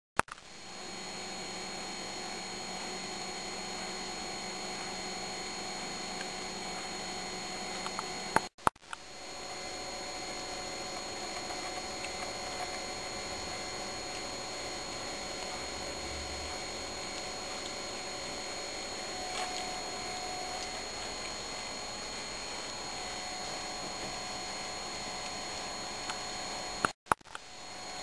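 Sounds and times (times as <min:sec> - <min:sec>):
faint high whine: 0:00.2 - 0:28.0
electrical hum and hiss: 0:00.3 - 0:28.0.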